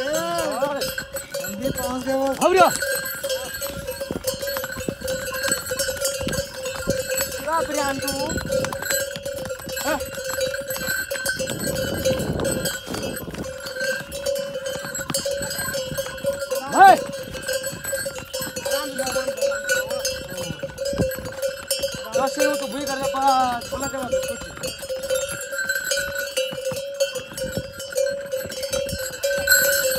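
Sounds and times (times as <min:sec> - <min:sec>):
harness bells ringing: 0:00.0 - 0:29.9.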